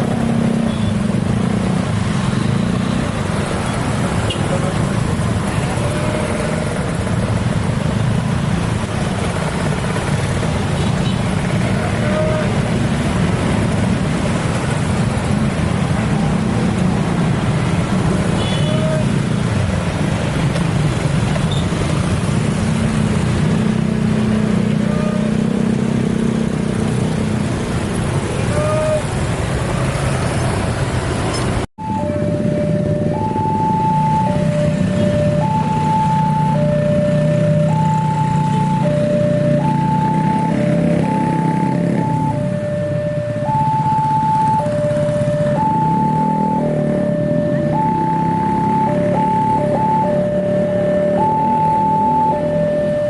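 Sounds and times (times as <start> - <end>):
road traffic engines and tyres: 0.0 - 53.0.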